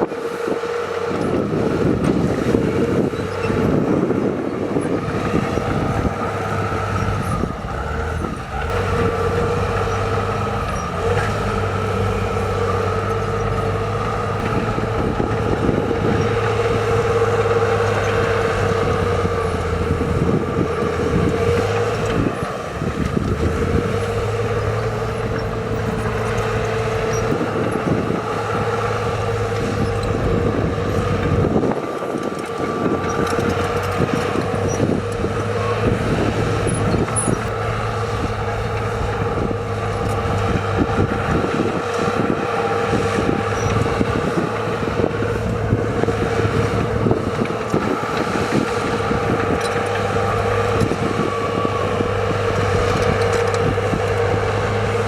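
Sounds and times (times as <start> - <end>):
heavy diesel machinery drone: 0.0 - 55.0
held whine: 0.0 - 55.0.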